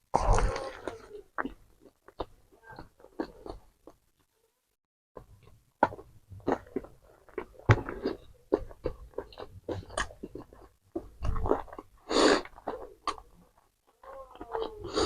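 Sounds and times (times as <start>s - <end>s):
person chewing crispy food: 0.2s - 4.1s, 5.4s - 15.0s.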